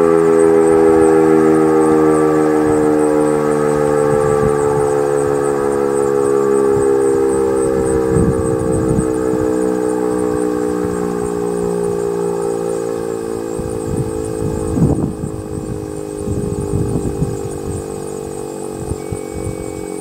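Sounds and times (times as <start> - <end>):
warning siren winding down: 0.0 - 20.0
wind gusts on microphone: 0.6 - 20.0.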